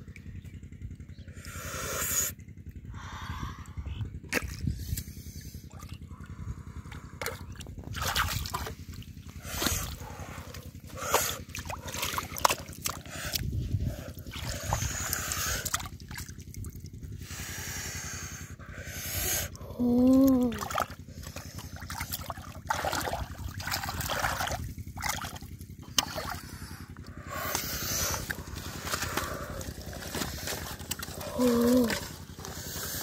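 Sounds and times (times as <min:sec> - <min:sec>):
low mechanical throb: 0:00.0 - 0:33.0
muddy water splashing: 0:04.1 - 0:33.0.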